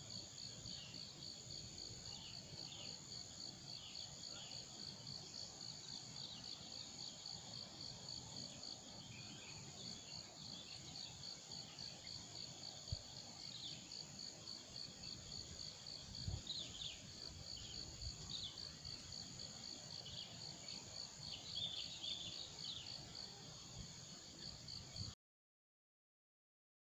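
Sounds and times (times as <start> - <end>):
high pulsing insect trill: 0.0 - 25.2.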